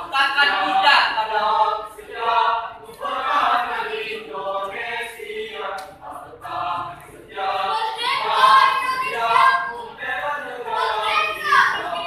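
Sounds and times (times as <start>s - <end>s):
children's choir singing a cappella: 0.0s - 12.0s.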